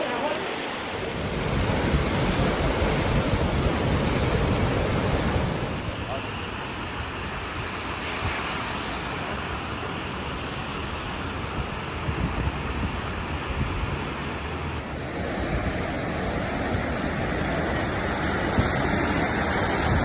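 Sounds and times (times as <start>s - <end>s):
floodwater flowing: 0.0s - 20.0s
heavy rain: 0.0s - 20.0s.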